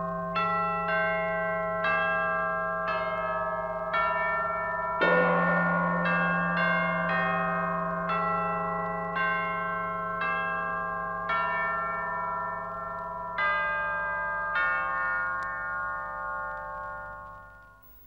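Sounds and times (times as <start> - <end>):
bell-like chimes melody: 0.0 - 17.8.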